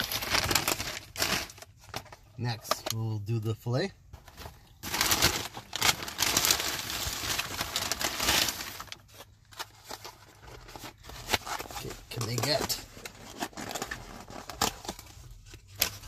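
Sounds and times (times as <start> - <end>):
paper bag rustling and crinkling: 0.0 - 3.1, 4.2 - 16.0.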